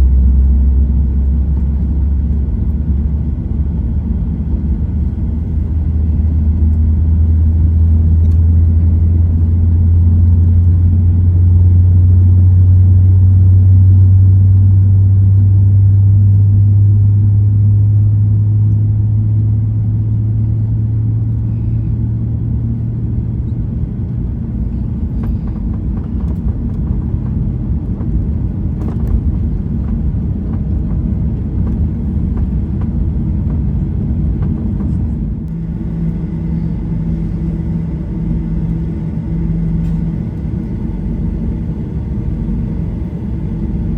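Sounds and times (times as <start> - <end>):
jet engine cabin rumble: 0.0 - 43.9.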